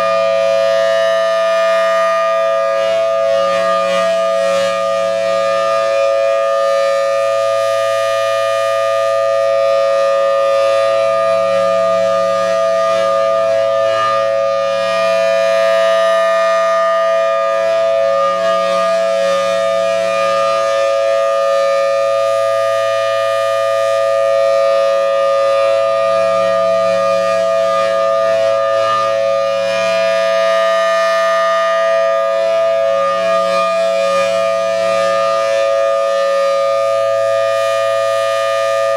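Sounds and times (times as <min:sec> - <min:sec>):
warning siren steady chord: 0:00.0 - 0:38.9.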